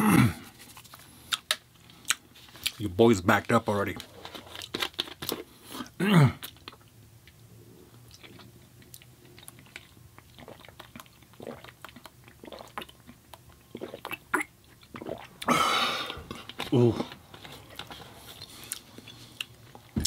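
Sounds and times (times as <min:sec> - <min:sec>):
person chewing food: 0:00.6 - 0:02.8, 0:04.2 - 0:20.0.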